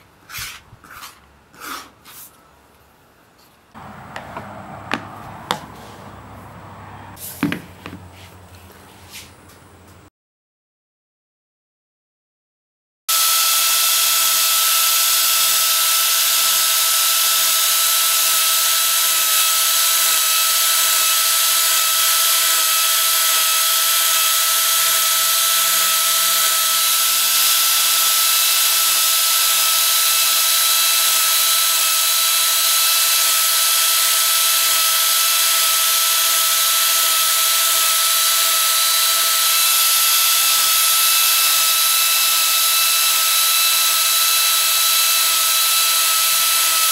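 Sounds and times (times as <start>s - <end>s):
angle grinder carving wood: 3.7s - 7.5s, 13.1s - 46.9s.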